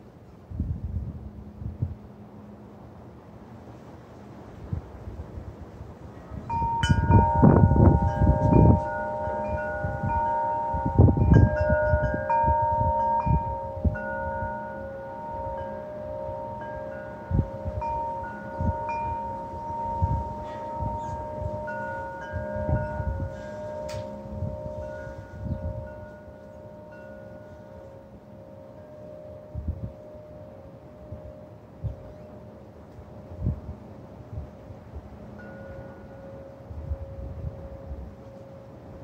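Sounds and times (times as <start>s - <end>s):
wind gusts on microphone: 0.0s - 2.2s, 3.5s - 28.1s, 29.0s - 32.4s, 33.0s - 39.0s
wind chimes ringing: 6.4s - 39.0s.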